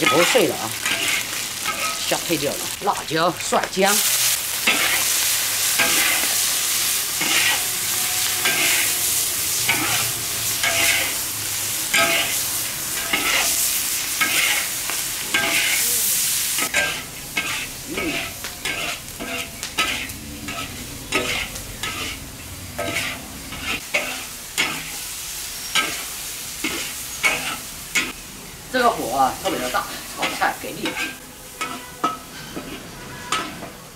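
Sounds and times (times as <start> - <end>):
food sizzling in hot oil: 0.0 - 33.9
metal spatula scraping wok: 0.0 - 33.9.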